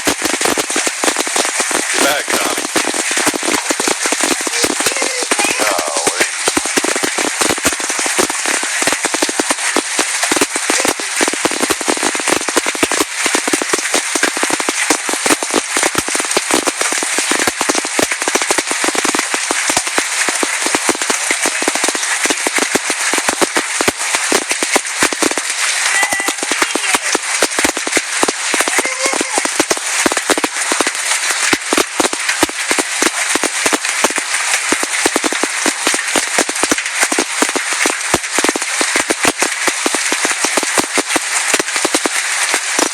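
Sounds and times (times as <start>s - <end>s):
hail pelting down: 0.0s - 42.9s.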